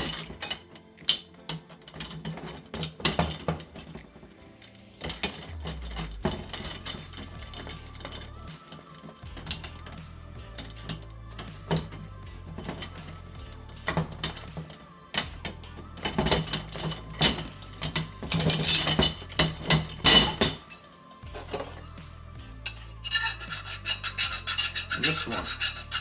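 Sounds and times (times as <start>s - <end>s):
metal parts and tools knocking: 0.0s - 22.0s, 22.6s - 26.0s.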